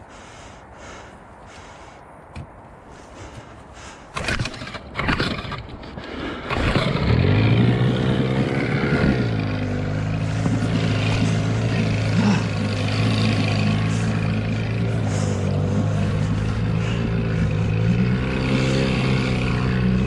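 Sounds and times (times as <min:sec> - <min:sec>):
outboard motor starting and running: 0:03.4 - 0:20.0.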